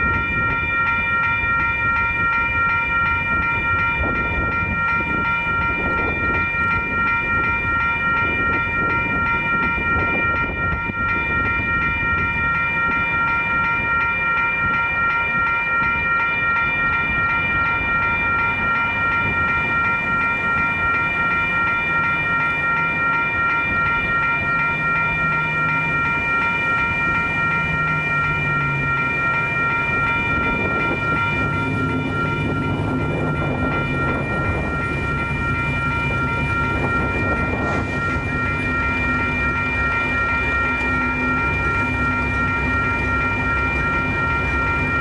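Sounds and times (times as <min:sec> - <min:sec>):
crossing warning bell ringing: 0:00.0 - 0:45.0
train locomotive rumble: 0:00.0 - 0:45.0.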